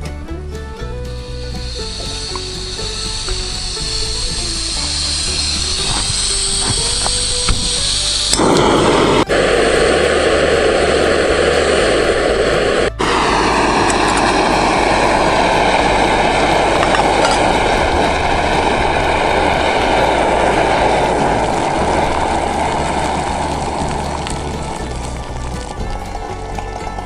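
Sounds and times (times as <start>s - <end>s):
camp stove burner hissing: 0.0s - 27.0s.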